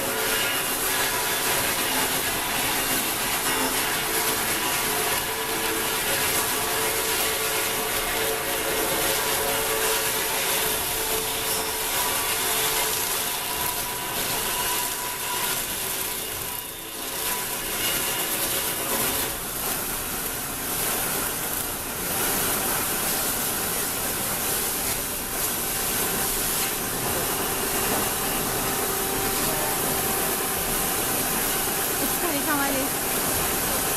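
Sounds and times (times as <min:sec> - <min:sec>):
woodworking machinery running: 0:00.0 - 0:33.9.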